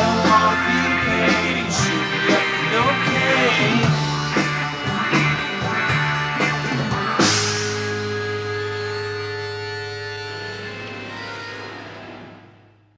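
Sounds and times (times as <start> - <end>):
rock band playing: 0.0 - 12.8.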